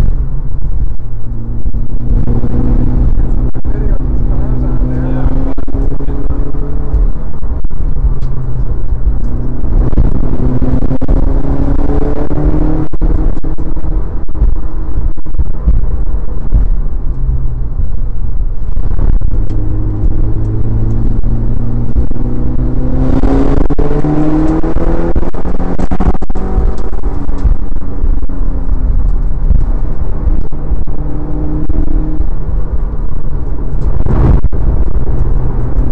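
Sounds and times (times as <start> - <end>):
car engine pulling hard: 0.0 - 35.9
road and wind noise: 0.0 - 35.9.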